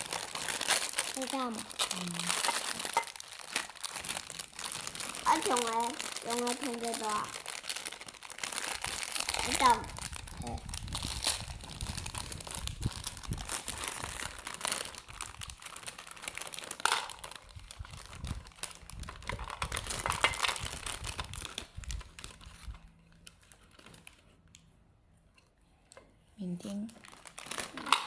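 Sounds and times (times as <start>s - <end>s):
plastic bag crinkling: 0.0s - 24.5s, 26.6s - 28.0s.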